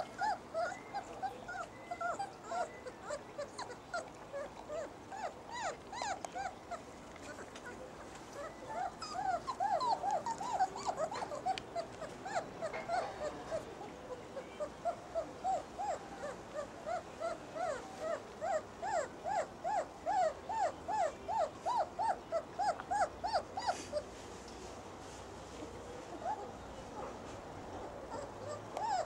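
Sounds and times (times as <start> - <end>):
puppy whimpering: 0.0 - 24.1, 28.0 - 29.0.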